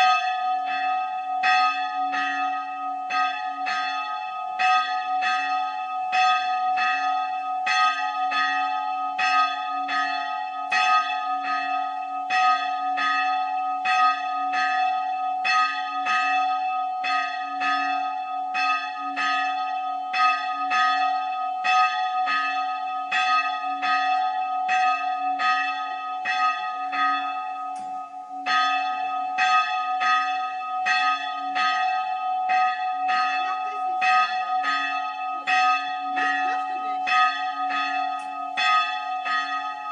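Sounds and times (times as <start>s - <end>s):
church bell strokes: 0.0s - 39.9s.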